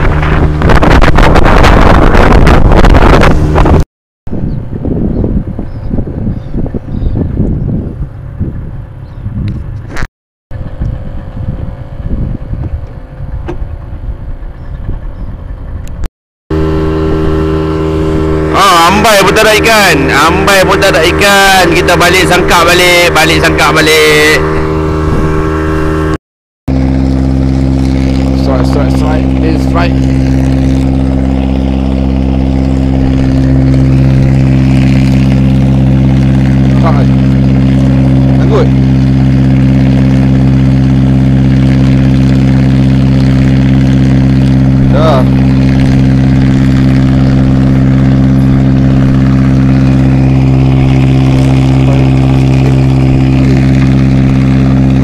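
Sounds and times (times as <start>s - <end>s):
outboard motor running: 0.0s - 55.0s
wind rumbling on microphone: 0.0s - 55.0s.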